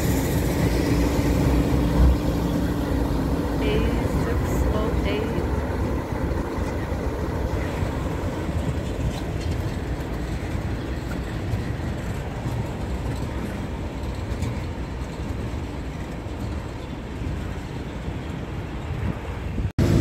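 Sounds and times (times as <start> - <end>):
train wheels rolling on rail: 0.0 - 20.0.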